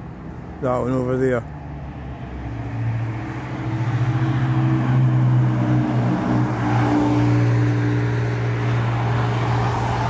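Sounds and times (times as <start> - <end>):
car passing close by: 1.7 - 10.0.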